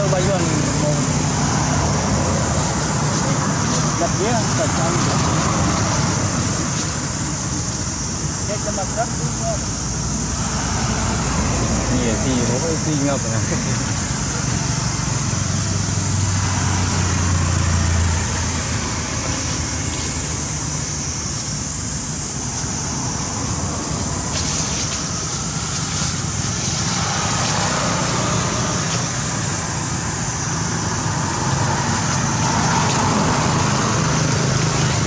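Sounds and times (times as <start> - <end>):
high-pitched hiss: 0.0 - 35.0
road traffic engine hum: 0.0 - 35.0.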